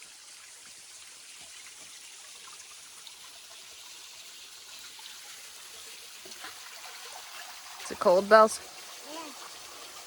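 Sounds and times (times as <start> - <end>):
stream babbling: 0.0 - 10.0.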